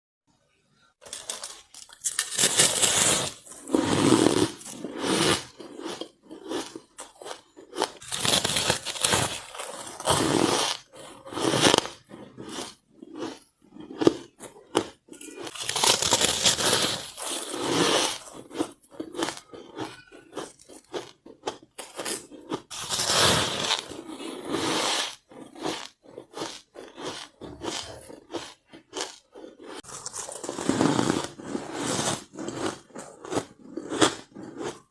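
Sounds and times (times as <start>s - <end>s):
ice crunching while chewed: 1.0s - 34.9s.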